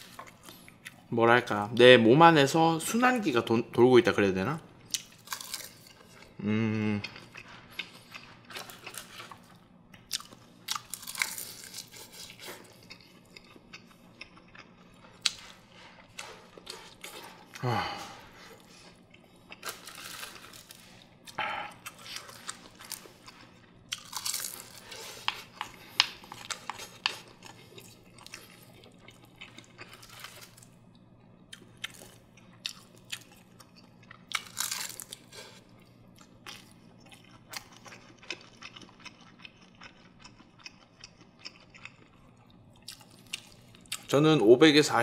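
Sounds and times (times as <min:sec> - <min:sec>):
chewing and crunching: 0:04.9 - 0:44.1.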